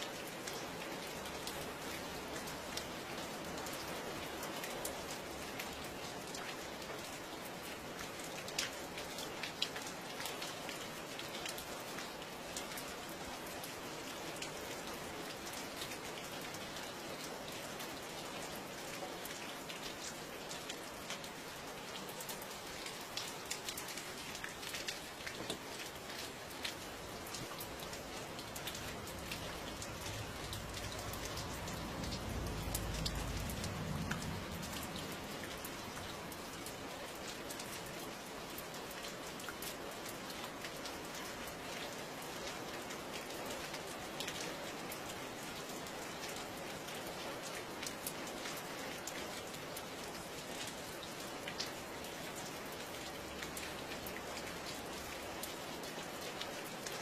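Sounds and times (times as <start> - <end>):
rain drops ticking: 0.0 - 57.0.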